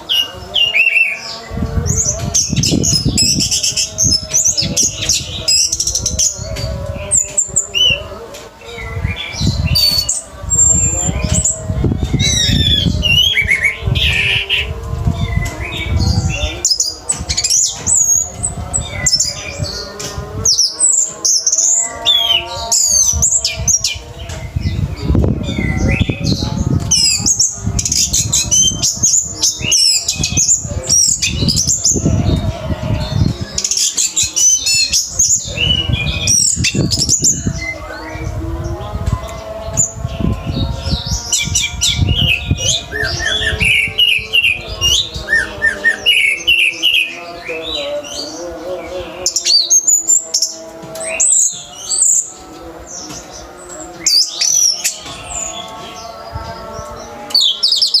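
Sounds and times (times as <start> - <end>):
thrush singing: 0.0 - 58.0.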